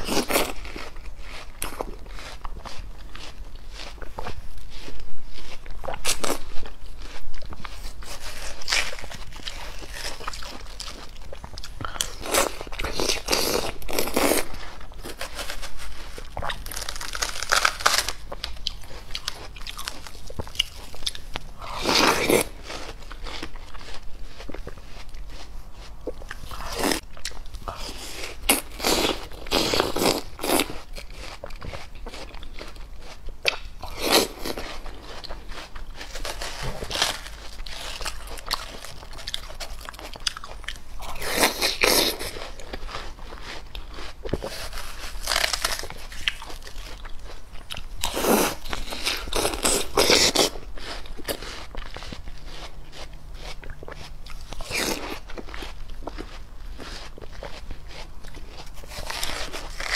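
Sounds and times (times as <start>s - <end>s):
chewing watermelon: 0.0s - 59.9s.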